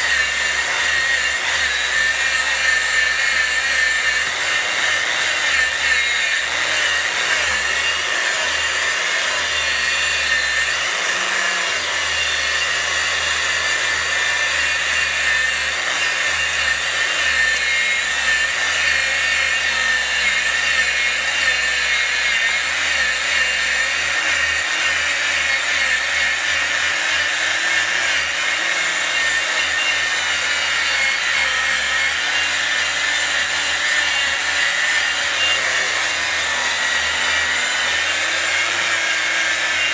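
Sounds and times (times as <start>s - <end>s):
angle grinder grinding wood: 0.0s - 39.9s.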